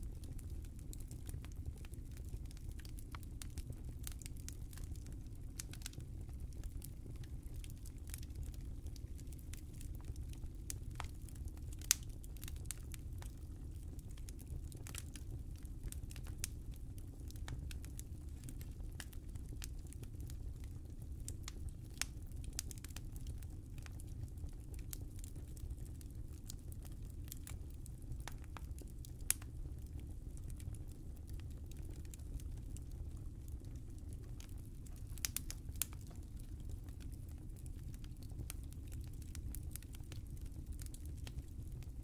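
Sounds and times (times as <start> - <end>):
fire crackling: 0.0 - 42.0
low rumble of flames: 0.0 - 42.0.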